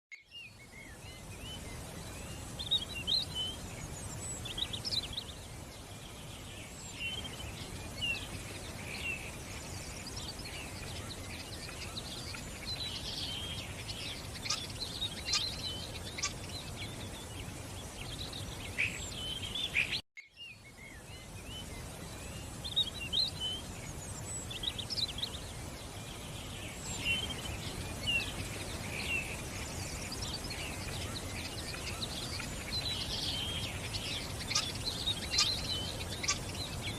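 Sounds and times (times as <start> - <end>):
songbirds chirping: 0.1 - 36.9
background hiss: 0.2 - 36.9.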